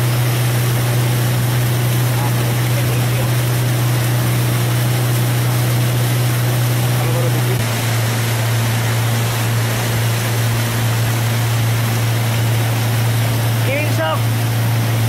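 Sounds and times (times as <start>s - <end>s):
motorboat engine humming: 0.0s - 15.0s
water rushing hiss: 0.0s - 15.0s.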